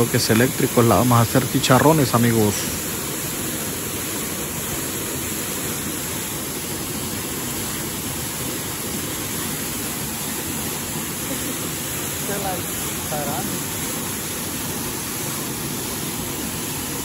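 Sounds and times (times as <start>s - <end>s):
water rushing from dam outlet: 0.0s - 17.0s.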